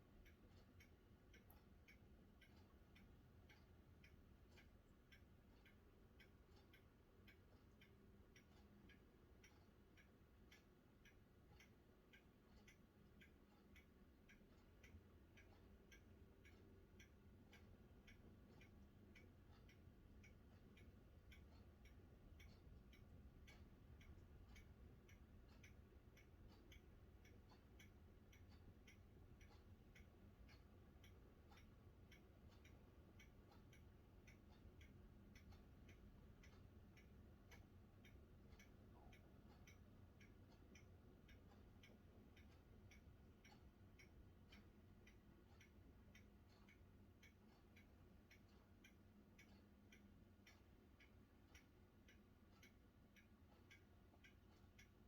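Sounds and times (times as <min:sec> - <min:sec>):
low background hum: 0:00.0 - 0:55.0
faint even ticking: 0:00.1 - 0:55.0.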